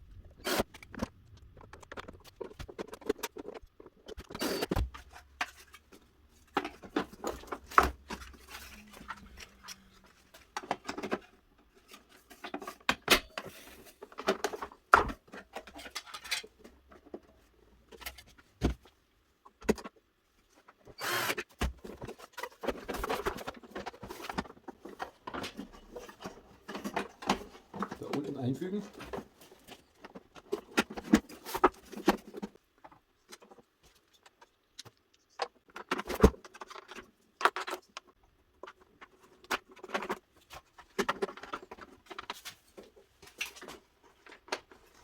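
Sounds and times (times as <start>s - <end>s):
vacuum parts clicking and knocking: 0.4s - 18.9s, 19.5s - 20.0s, 20.6s - 45.0s.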